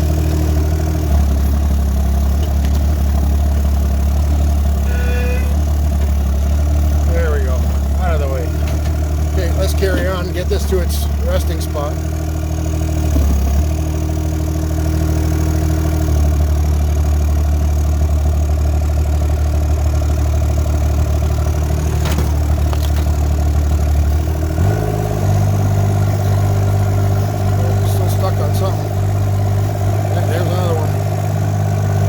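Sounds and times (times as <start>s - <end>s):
mini excavator engine running: 0.0s - 32.0s.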